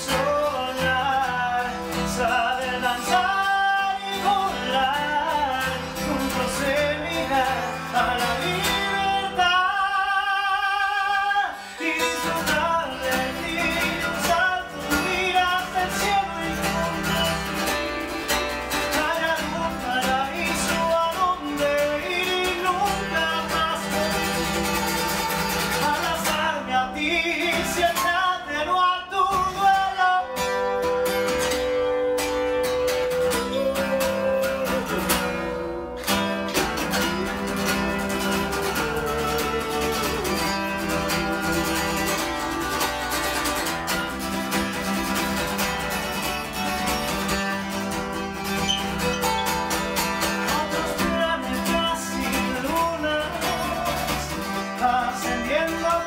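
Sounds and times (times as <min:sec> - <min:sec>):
acoustic guitar: 0:00.0 - 0:56.0
man singing: 0:00.0 - 0:56.0.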